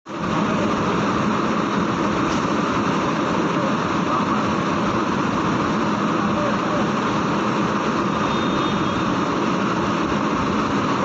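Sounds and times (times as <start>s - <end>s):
diesel engines rumbling: 0.1s - 11.0s.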